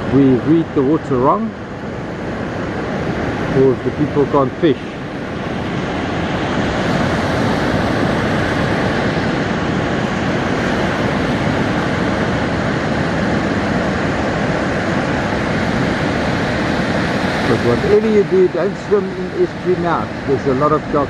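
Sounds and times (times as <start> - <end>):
surf breaking on beach: 0.0 - 21.0.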